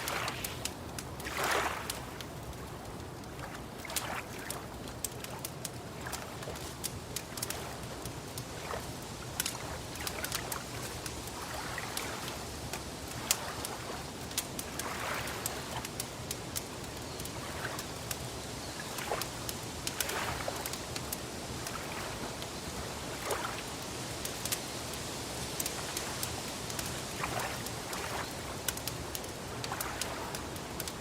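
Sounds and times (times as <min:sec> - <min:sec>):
wood fire crackling: 0:00.0 - 0:22.8, 0:23.6 - 0:31.0
lake water lapping: 0:00.0 - 0:23.7, 0:25.7 - 0:31.0.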